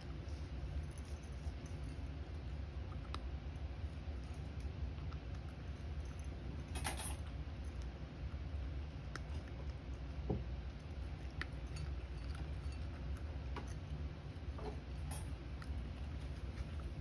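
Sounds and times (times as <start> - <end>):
cat crunching dry food: 0.0 - 17.0
steady low hum: 0.0 - 17.0.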